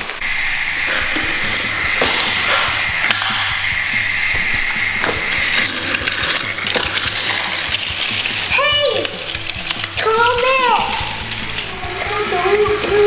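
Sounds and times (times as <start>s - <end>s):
gears and wheels clicking: 0.0s - 13.0s
toy train motor whine: 0.1s - 13.0s.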